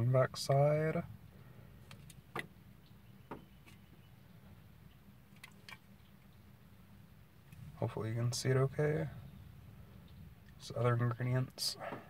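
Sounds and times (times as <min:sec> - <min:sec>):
low car interior hum: 0:00.0 - 0:12.0.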